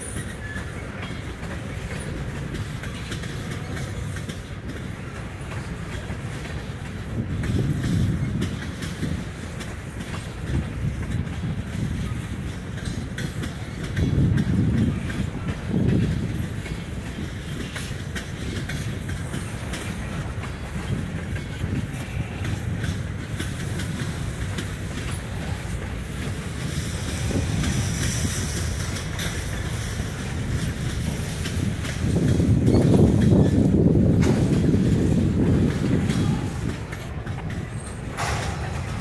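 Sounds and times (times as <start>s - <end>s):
freight train wheels rumbling: 0.0s - 39.0s
train wheels clicking: 0.0s - 39.0s.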